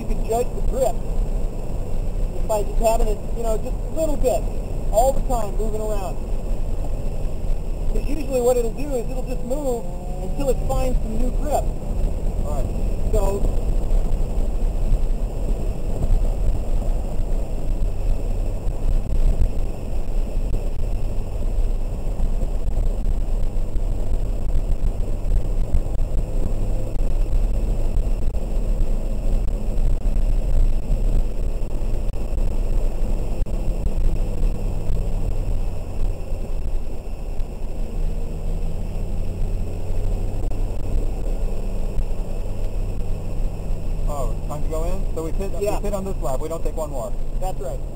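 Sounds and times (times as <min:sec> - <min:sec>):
car engine revving: 0:00.0 - 0:47.9
road noise inside car: 0:00.0 - 0:47.9.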